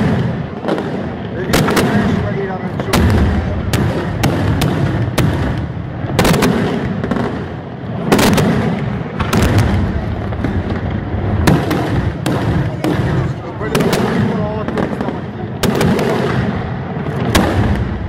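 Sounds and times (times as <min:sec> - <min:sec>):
fireworks bursting with bangs: 0:00.0 - 0:18.0.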